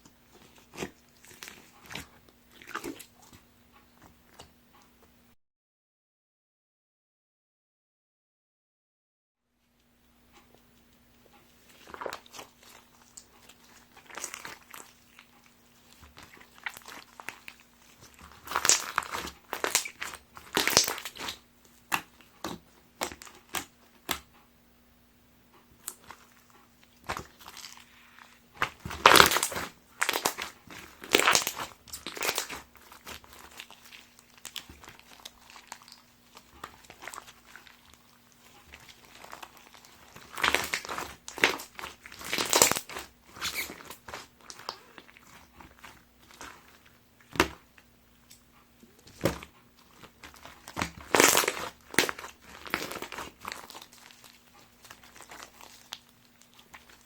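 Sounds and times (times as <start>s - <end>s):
crunchy slime crackling: 0.0s - 3.4s, 11.6s - 24.3s, 25.8s - 57.0s.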